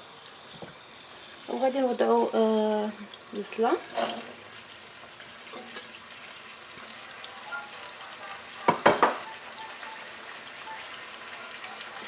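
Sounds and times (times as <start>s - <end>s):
onion and chicken sizzling in oil: 0.0s - 12.0s.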